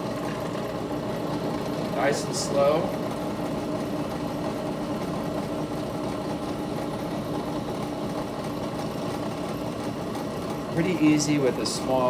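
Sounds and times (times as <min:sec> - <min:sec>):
drill press motor humming: 0:00.0 - 0:12.0.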